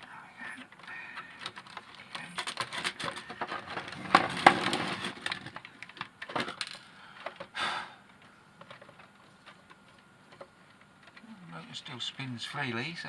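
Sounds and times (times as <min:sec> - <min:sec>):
plastic parts clicking and crunching: 0:00.6 - 0:07.5, 0:08.1 - 0:11.8.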